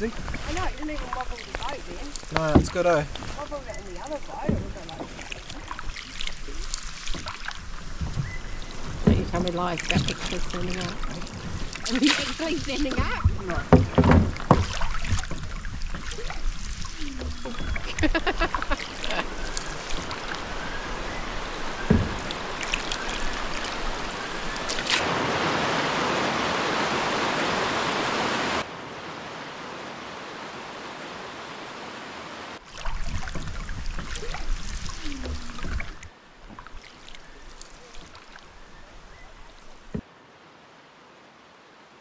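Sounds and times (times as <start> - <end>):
canoe on calm water: 0.0 - 42.0
stream rushing over rocks: 0.0 - 42.0.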